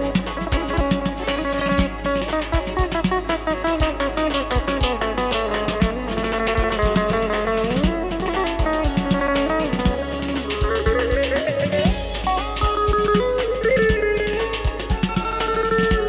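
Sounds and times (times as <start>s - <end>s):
drum kit beat: 0.0s - 16.0s
guitar: 0.0s - 16.0s.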